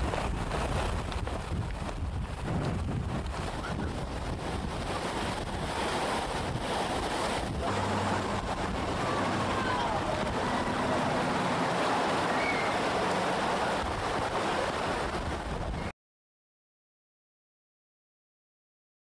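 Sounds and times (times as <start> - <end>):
storm wind: 0.0 - 15.9
surf: 0.0 - 15.9.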